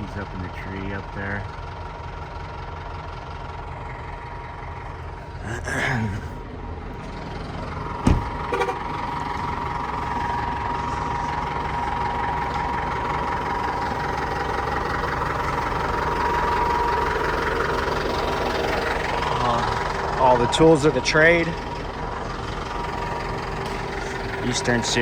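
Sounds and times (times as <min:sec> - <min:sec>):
crane engine idling: 0:00.0 - 0:25.0.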